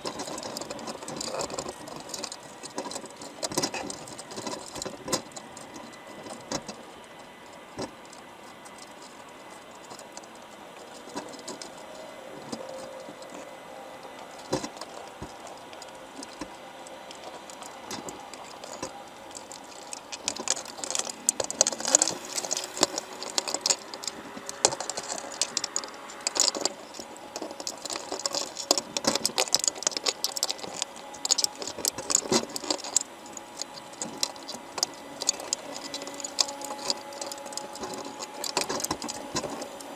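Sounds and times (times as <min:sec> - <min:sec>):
crabs clicking underwater: 0:00.0 - 0:39.9.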